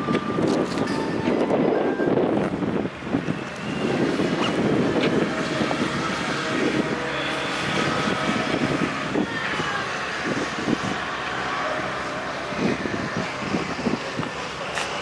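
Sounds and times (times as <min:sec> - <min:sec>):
faint high machinery whines: 0:00.0 - 0:15.0
heavy machinery engine drone: 0:00.0 - 0:15.0
wind buffeting microphone: 0:00.0 - 0:15.0.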